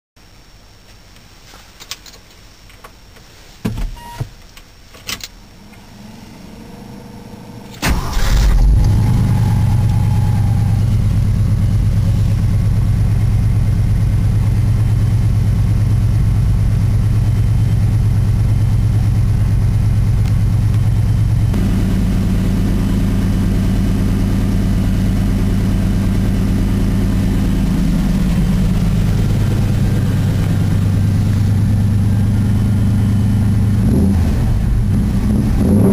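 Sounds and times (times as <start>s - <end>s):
truck engine starting and idling: 5.2s - 35.9s.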